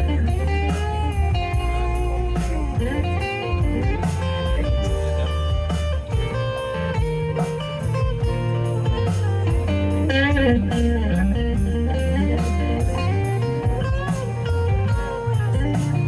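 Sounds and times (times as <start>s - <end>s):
blues band playing: 0.0s - 16.0s
electric guitar lead: 0.0s - 16.0s.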